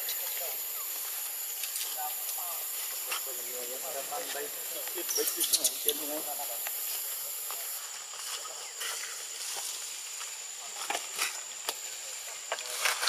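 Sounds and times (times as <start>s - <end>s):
high-pitched insect hum: 0.0s - 13.0s
rustles: 0.0s - 13.0s.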